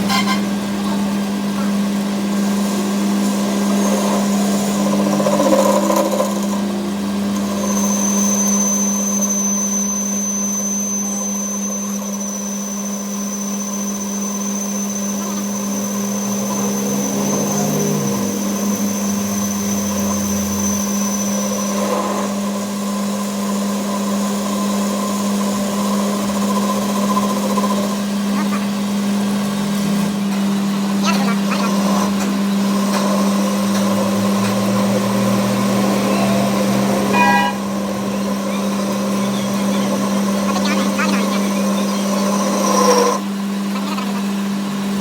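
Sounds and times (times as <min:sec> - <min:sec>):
high-pitched whine: 0:00.0 - 0:45.0
machine tool humming: 0:00.0 - 0:45.0.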